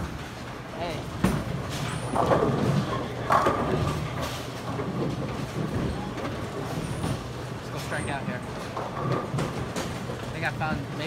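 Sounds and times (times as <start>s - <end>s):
bowling pins knocking and clattering: 1.1s - 11.0s.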